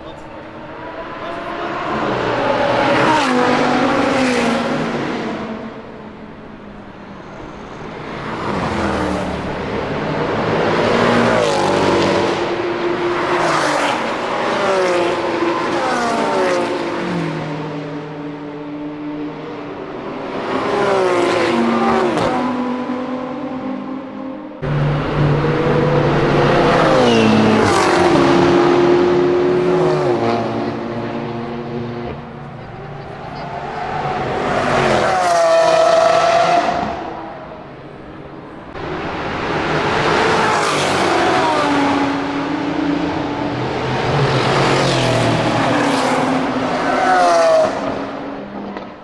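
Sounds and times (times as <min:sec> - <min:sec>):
sports cars driving past: 0:00.0 - 0:49.0.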